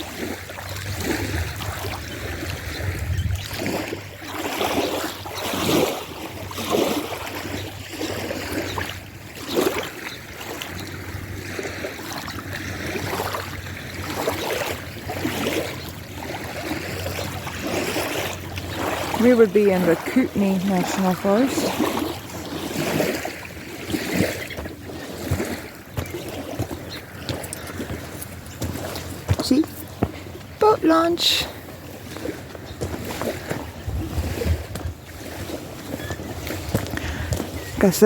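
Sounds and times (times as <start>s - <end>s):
waves lapping on rocks: 0.0s - 38.0s.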